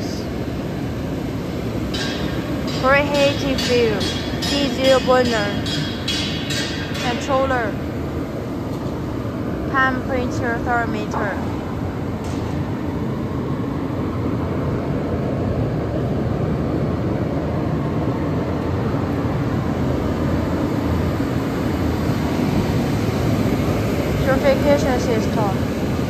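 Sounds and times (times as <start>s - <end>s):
furnace plant machinery noise: 0.0s - 26.0s.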